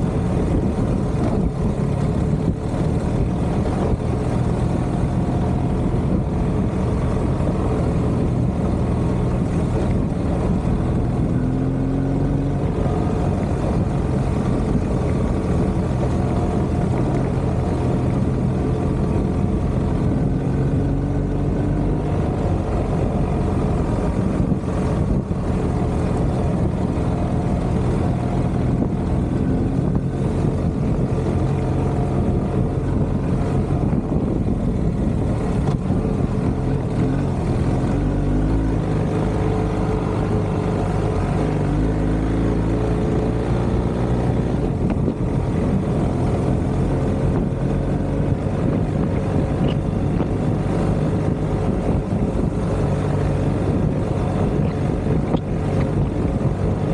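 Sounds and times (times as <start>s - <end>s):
motorcycle engine running: 0.0s - 56.9s
wind rush: 0.0s - 56.9s.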